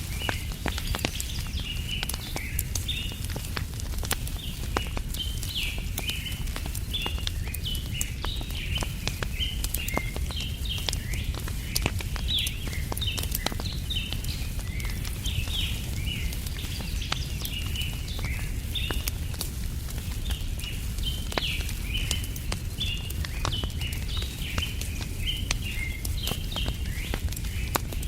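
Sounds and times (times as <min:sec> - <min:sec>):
small birds chirping: 0:00.0 - 0:28.0
wood fire crackling and popping: 0:00.0 - 0:28.0.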